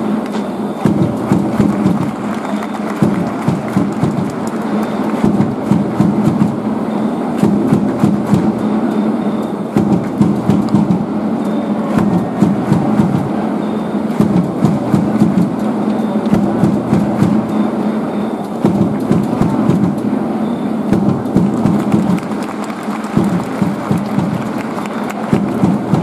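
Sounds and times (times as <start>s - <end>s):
sharp claps: 0.0s - 6.7s, 7.3s - 13.4s, 14.1s - 17.8s, 18.4s - 20.1s, 20.9s - 26.0s
stadium crowd noise: 0.0s - 26.0s.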